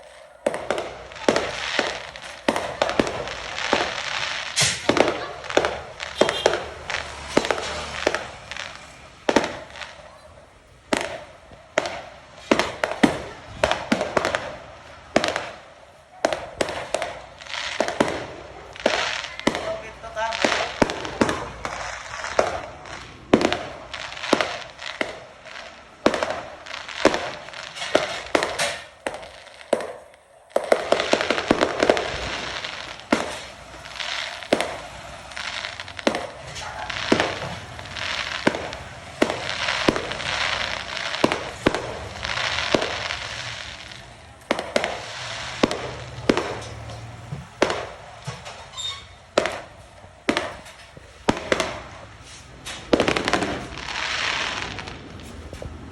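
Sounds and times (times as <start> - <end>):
fireworks bangs and pops: 0.0 - 55.9
fireworks crackling: 0.0 - 55.9.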